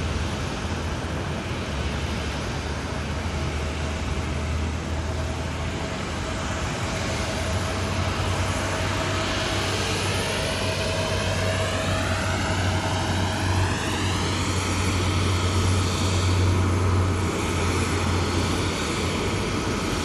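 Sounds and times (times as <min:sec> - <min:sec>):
distant jet engines rumbling: 0:00.0 - 0:20.0.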